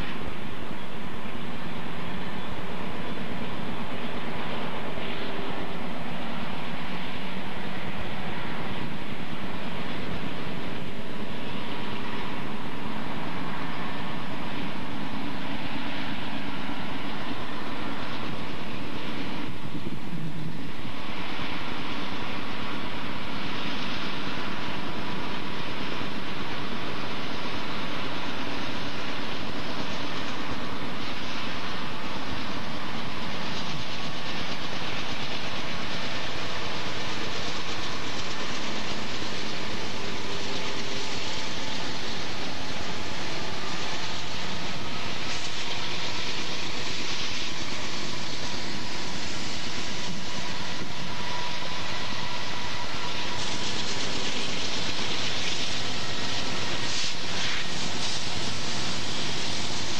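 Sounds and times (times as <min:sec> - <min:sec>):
diesel locomotive engines running: 0:00.0 - 0:59.9
faint steady tones: 0:00.0 - 0:59.9.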